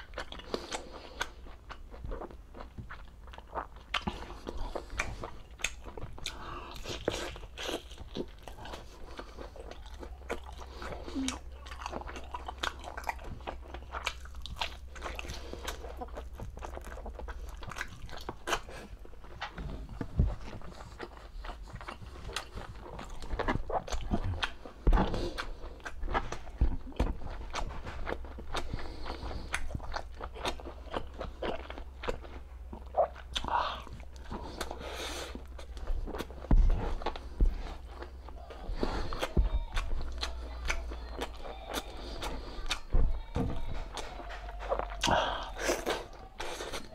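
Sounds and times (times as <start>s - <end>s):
person chewing and eating: 0.0s - 46.9s
steady low hum: 0.0s - 46.9s.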